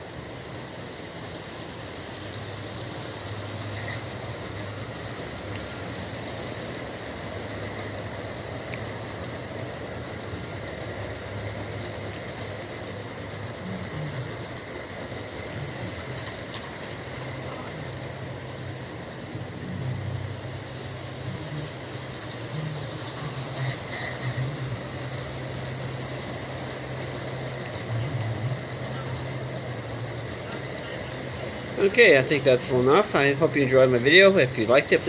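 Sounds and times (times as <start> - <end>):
model train motor hum: 0.0 - 35.0
wheels rolling on rails: 0.0 - 35.0.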